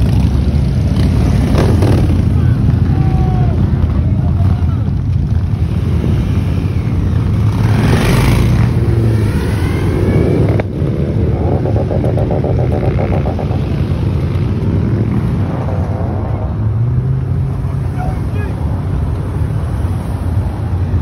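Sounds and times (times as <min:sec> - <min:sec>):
motorcycle engines running: 0:00.0 - 0:21.0
rumble of cars: 0:00.0 - 0:21.0.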